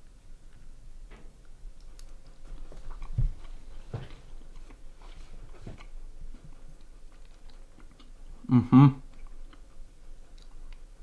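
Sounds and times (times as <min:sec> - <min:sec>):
person chewing food: 0:01.8 - 0:11.0.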